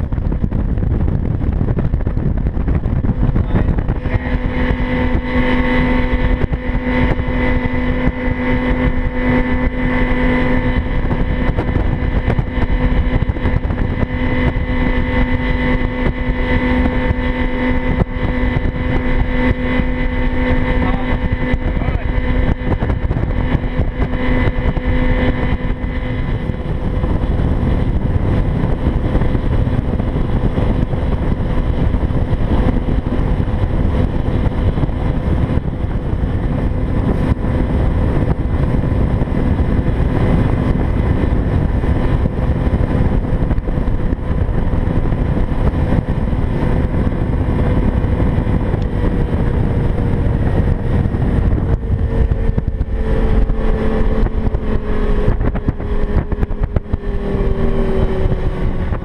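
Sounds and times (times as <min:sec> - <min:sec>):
outboard motor running: 0:00.0 - 0:59.0
wind noise on microphone: 0:00.0 - 0:59.0.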